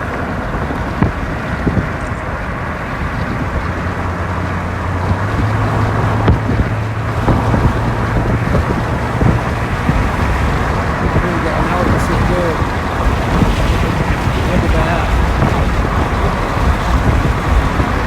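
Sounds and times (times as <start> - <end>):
car engine hum: 0.0 - 18.0
road noise inside car: 0.0 - 18.0.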